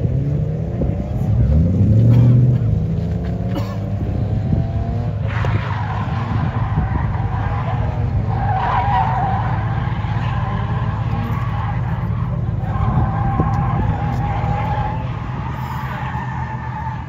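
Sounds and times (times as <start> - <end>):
car engine revving: 0.0 - 17.0
tyres squealing on asphalt: 1.1 - 17.0.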